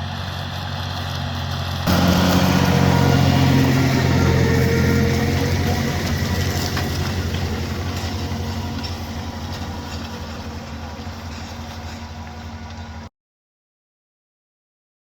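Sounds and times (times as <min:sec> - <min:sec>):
tractor diesel engine running: 0:00.0 - 0:13.1.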